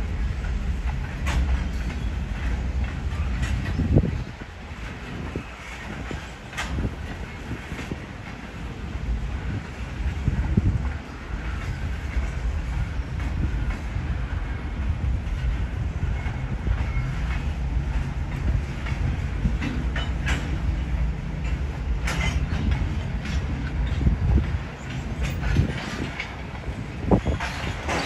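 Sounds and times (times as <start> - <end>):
low rumble of wheels on rail: 0.0 - 28.0
wheels clacking over rail joints: 0.1 - 28.0.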